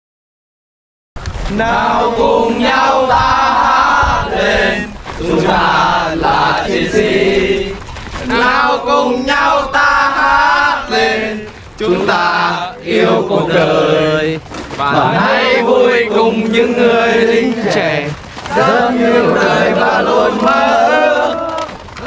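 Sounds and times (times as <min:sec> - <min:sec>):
men chanting in unison: 0:01.5 - 0:21.8.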